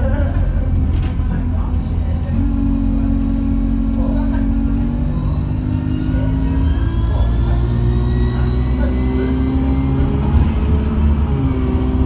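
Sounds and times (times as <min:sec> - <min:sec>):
bus engine accelerating: 0:00.0 - 0:12.0
turbocharger whine: 0:02.1 - 0:12.0.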